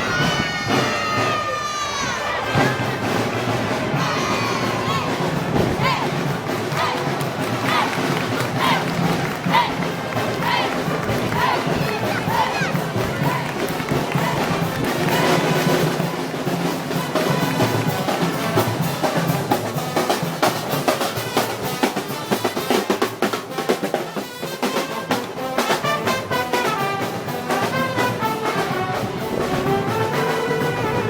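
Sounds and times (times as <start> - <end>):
band melody: 2.3 - 31.0
snare drum rolls: 2.4 - 31.0.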